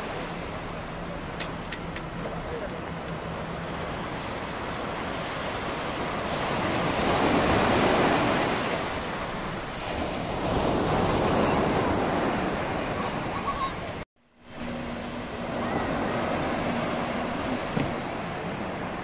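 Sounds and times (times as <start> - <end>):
surf breaking on beach: 0.0 - 19.0.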